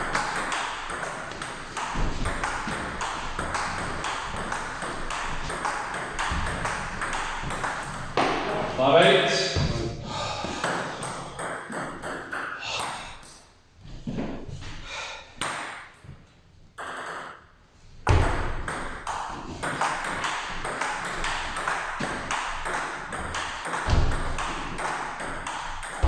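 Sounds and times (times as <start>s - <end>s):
table tennis ball hitting rackets: 0.0s - 8.8s, 10.4s - 13.4s, 15.4s - 16.1s, 16.8s - 26.0s.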